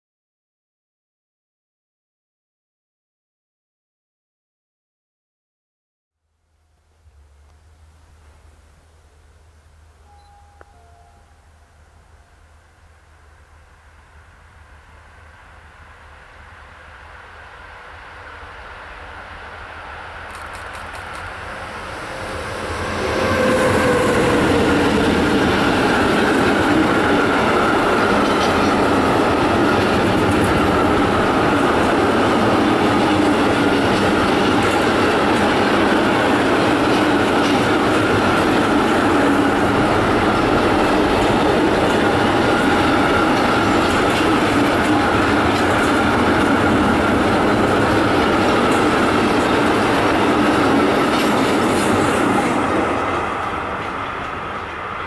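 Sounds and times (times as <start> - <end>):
train wheels rumbling on rails: 10.0 - 55.0.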